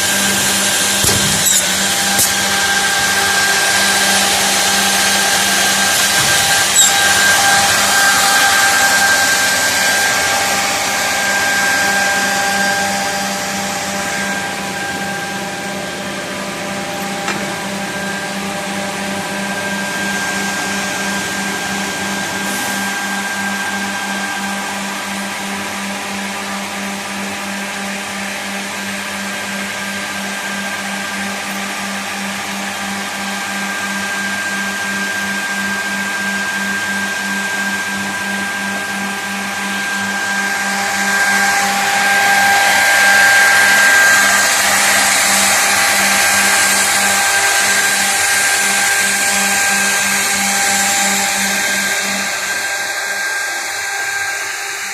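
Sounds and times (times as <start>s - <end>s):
machine motor hum and whine: 0.0s - 54.9s.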